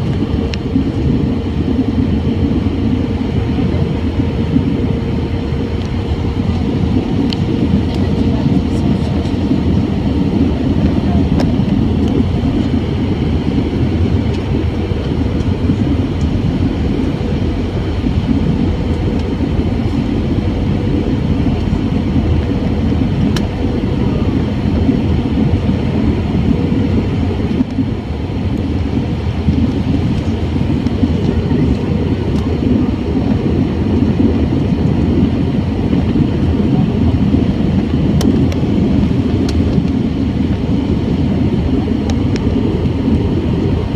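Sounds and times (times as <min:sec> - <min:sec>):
airplane cabin engine roar: 0:00.0 - 0:43.9.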